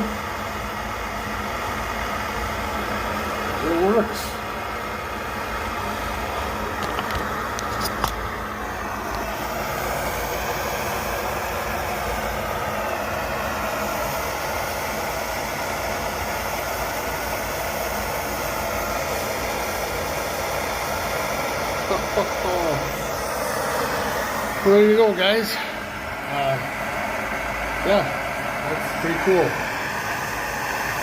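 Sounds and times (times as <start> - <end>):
stove burner hissing: 0.0 - 31.0.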